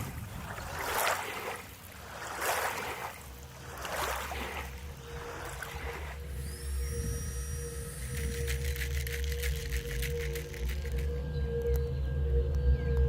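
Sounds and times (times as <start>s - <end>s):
water splashing: 0.0s - 11.1s
steady low rumble: 0.0s - 13.0s.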